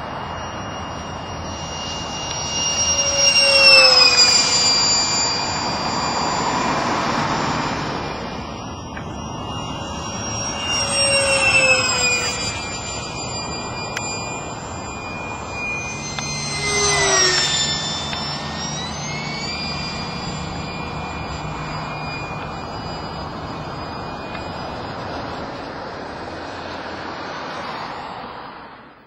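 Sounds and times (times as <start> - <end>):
electric ducted fan jet whining: 0.0 - 27.5.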